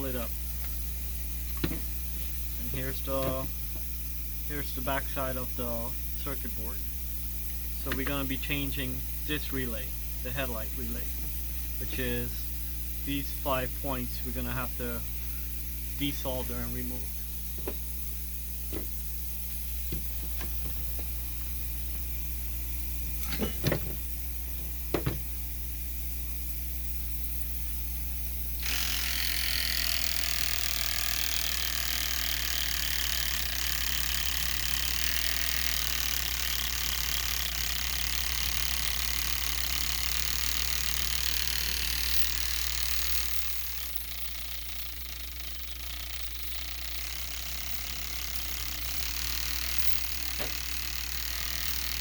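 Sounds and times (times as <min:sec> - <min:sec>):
desoldering tool whirring hiss: 0:00.0 - 0:52.0
low electrical hum: 0:00.0 - 0:52.0.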